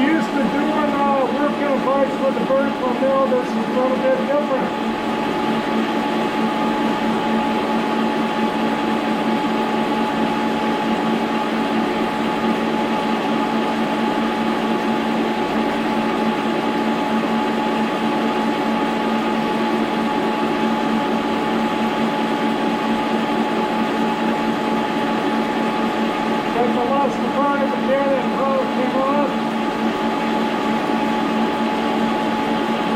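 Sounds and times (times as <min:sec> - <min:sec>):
milling machine running: 0:00.0 - 0:32.9.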